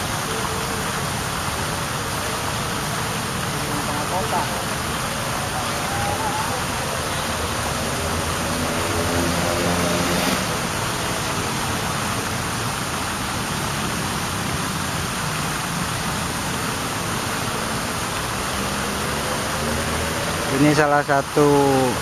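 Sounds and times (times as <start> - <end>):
city traffic roar: 0.0 - 22.0.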